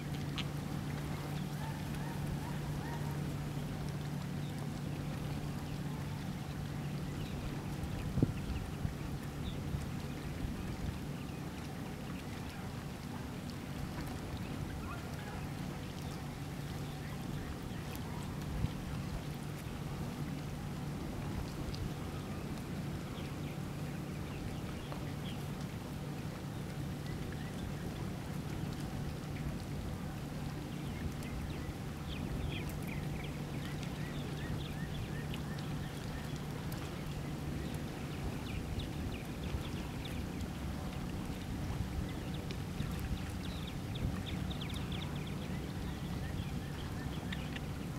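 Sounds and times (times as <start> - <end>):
steady low rumble: 0.0 - 47.9.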